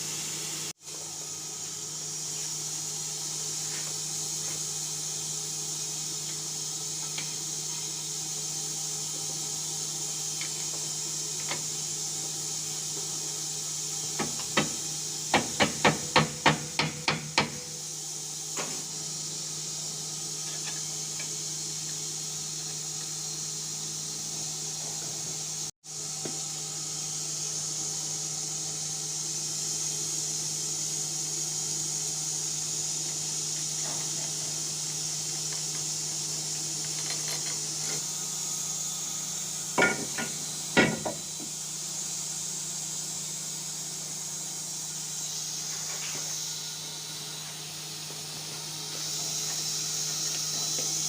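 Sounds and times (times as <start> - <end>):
machine hum with high hiss: 0.0 - 51.0.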